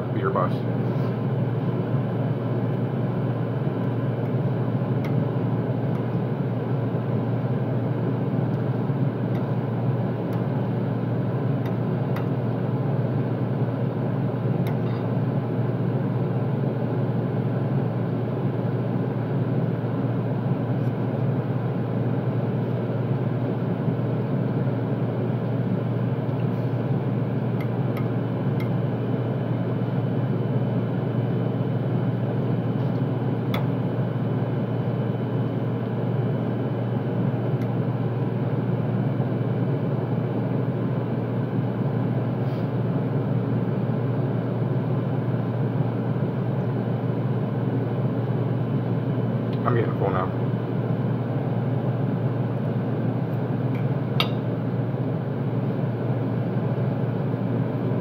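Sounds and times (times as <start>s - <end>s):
kitchen ventilation drone: 0.0s - 58.0s.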